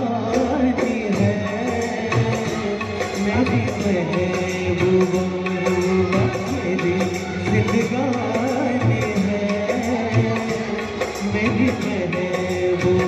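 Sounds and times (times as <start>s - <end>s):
backing music with steady beat: 0.0s - 13.0s
man singing into microphone: 0.0s - 13.0s.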